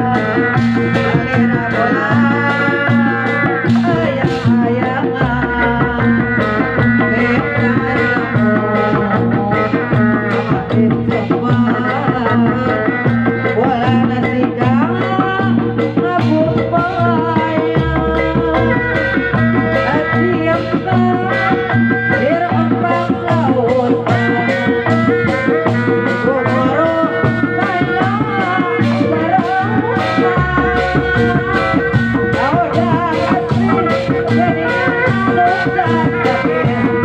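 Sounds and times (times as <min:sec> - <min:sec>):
hand drums drumming: 0:00.0 - 0:37.0
live music through a pa: 0:00.0 - 0:37.0
wavering melody line: 0:00.0 - 0:37.0.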